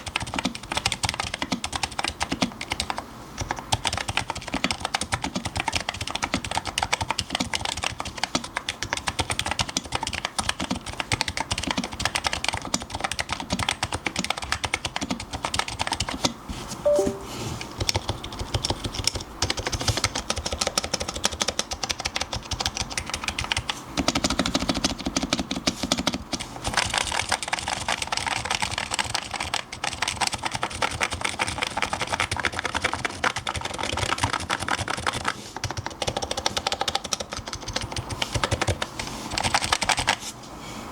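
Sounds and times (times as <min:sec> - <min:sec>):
rapid keyboard typing: 0:00.0 - 0:17.2, 0:17.8 - 0:40.2.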